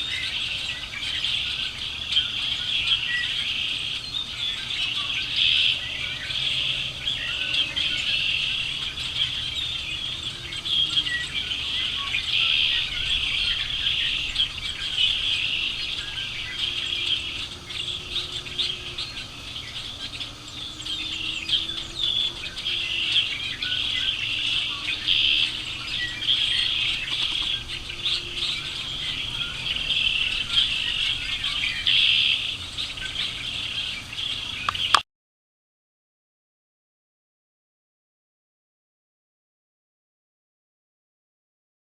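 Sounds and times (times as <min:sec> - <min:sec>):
small birds chirping and singing: 0:00.0 - 0:35.0.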